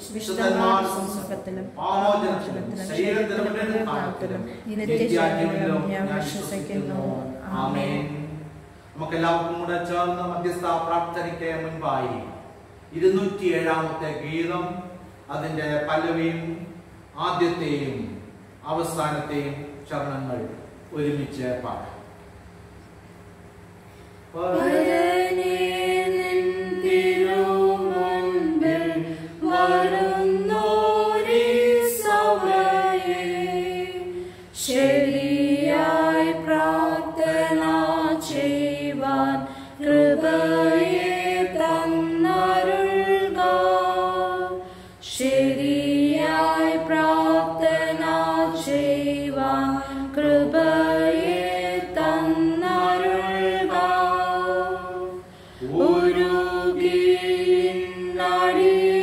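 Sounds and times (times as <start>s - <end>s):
hymn singing: 0.0s - 21.9s, 24.3s - 59.0s.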